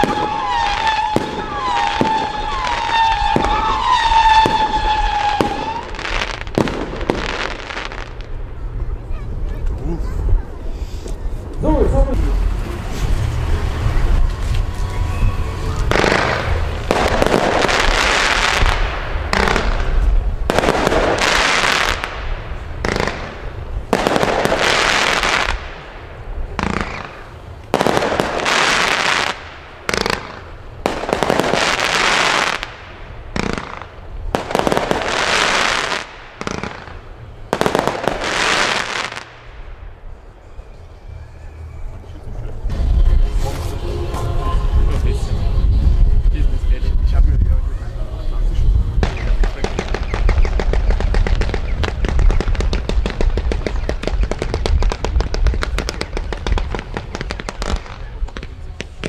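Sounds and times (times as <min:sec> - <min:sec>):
fireworks crackling: 0:00.0 - 0:40.4, 0:42.6 - 0:59.0.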